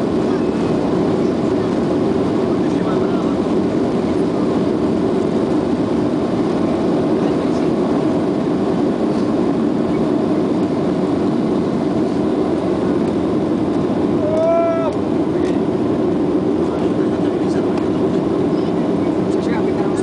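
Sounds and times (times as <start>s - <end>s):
jet engines roaring in cabin: 0.0s - 20.0s
wheels rumbling on runway: 0.0s - 20.0s.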